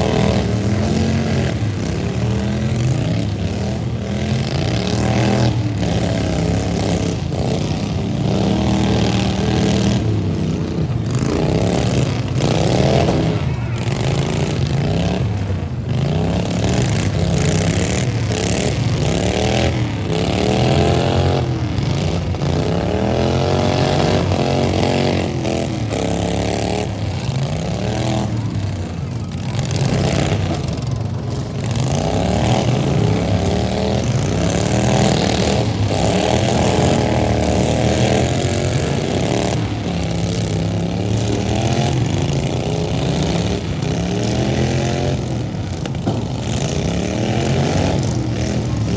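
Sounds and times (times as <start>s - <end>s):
lawn mower engines revving: 0.0s - 48.9s.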